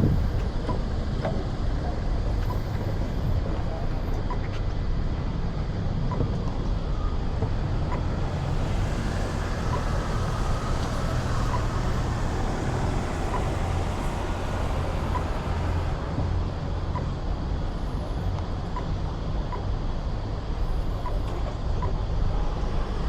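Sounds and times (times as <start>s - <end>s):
road traffic rumbling: 0.0s - 23.0s.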